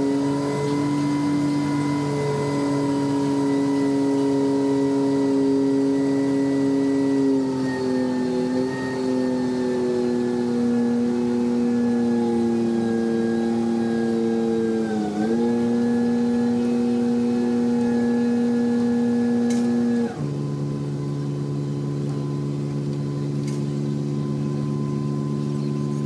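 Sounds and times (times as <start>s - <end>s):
crane engine running: 0.0s - 26.0s.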